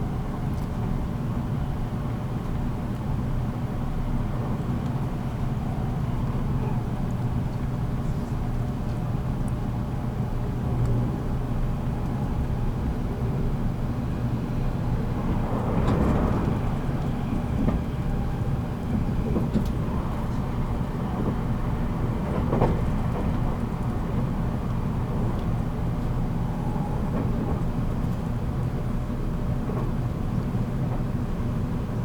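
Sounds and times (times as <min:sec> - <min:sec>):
train motors and wheels humming: 0:00.0 - 0:32.0.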